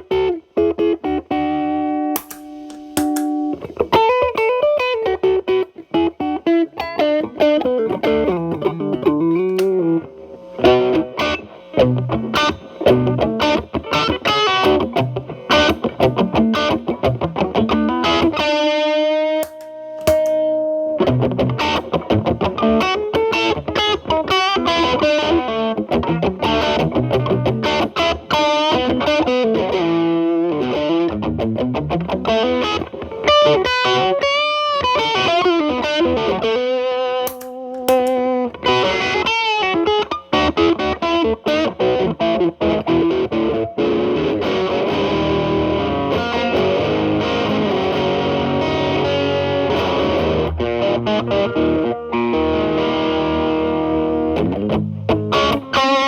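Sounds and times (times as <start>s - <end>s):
distorted electric guitar lead: 0.0s - 56.0s
electric guitar chords: 0.0s - 56.0s.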